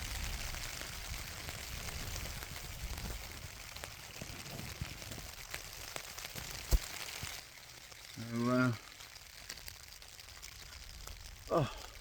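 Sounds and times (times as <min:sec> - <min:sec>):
light rain falling on a tent: 0:00.0 - 0:12.0.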